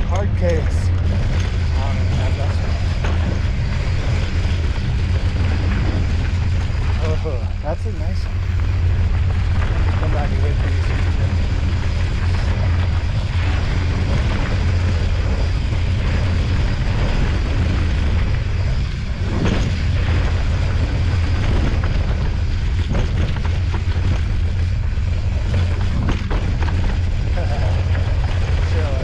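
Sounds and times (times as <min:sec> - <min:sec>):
bike knocking and rattling: 0:00.0 - 0:29.0
wind buffeting microphone: 0:00.0 - 0:29.0.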